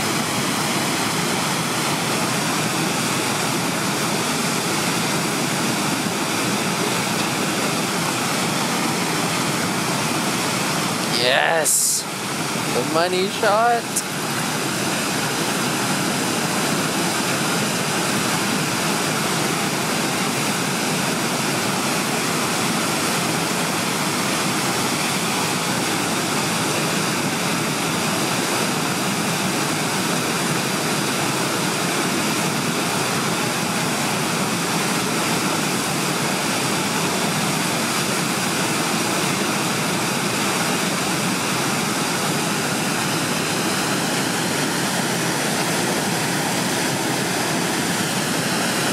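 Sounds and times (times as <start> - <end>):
whitewater rushing over rapids: 0.0 - 48.9.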